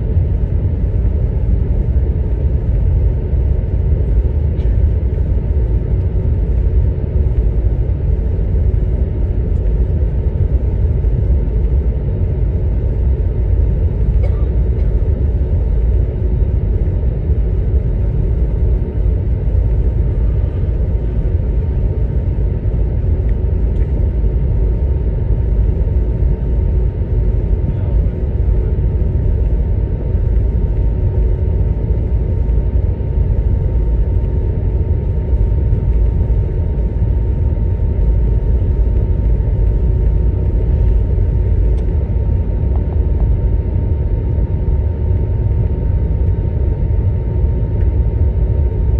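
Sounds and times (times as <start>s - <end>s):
airplane cabin rumble: 0.0s - 48.9s
faint steady hums: 0.0s - 48.9s.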